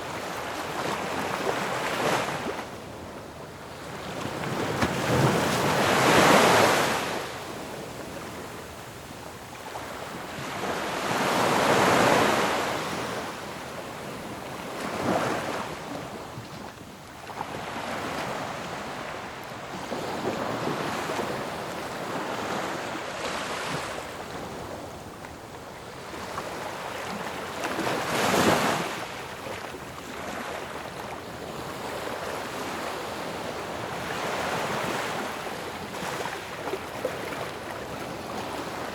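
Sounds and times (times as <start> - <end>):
ocean waves washing onto shore: 0.0 - 38.9.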